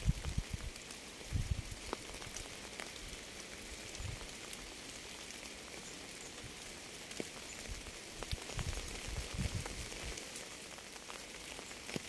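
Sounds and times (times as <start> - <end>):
raindrops ticking close by: 0.0 - 12.0
steady rain falling: 0.0 - 12.0.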